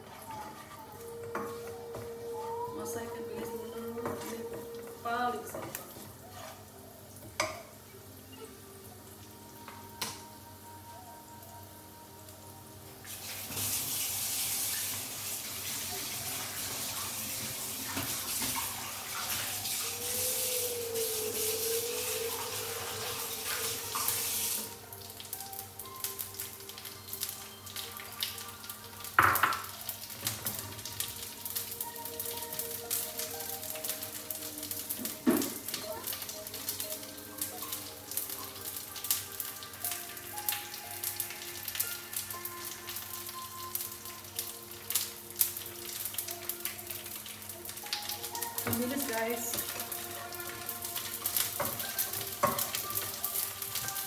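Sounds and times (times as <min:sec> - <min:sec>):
fish sizzling in hot oil: 0:00.0 - 0:54.0
soft background music: 0:00.0 - 0:54.0.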